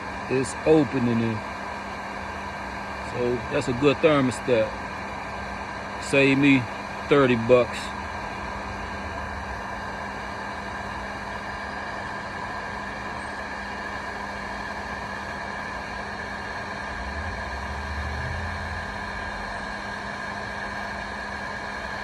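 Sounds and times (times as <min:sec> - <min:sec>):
heat gun blower hum: 0:00.0 - 0:22.0.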